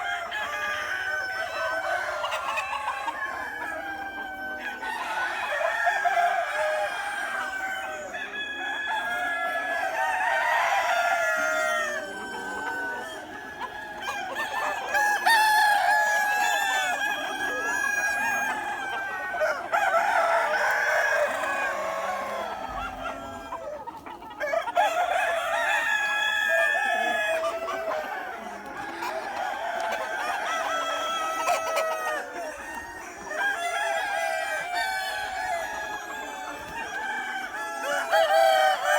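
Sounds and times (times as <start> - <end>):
chickens clucking: 0.0 - 38.9
roosters crowing: 0.0 - 38.9.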